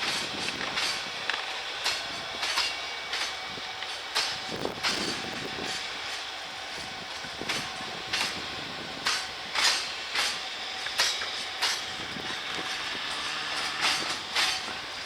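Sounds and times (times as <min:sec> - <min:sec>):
train wagons rolling rumble: 0:00.0 - 0:15.0
train wheels clacking over rail joints: 0:00.0 - 0:15.0.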